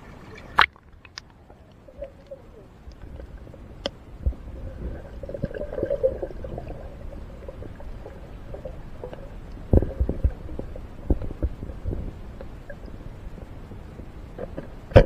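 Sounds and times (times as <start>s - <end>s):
water sloshing and gurgling: 0.0s - 15.0s
low rumble: 1.4s - 14.4s.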